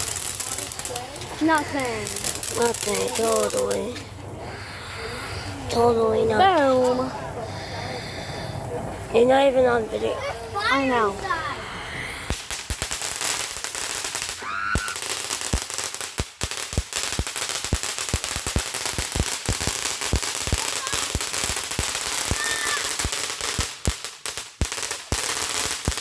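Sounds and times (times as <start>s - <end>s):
firecrackers popping: 0.0s - 7.8s, 8.4s - 26.0s.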